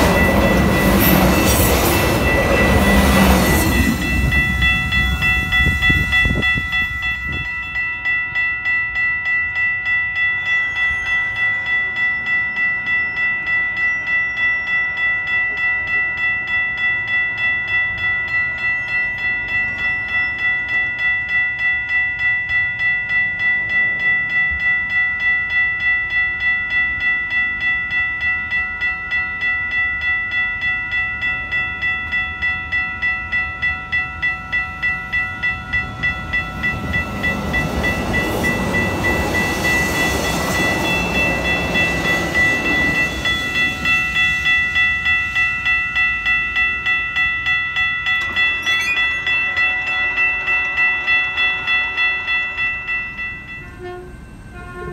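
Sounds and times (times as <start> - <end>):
crossing warning bell ringing: 0.0 - 54.9.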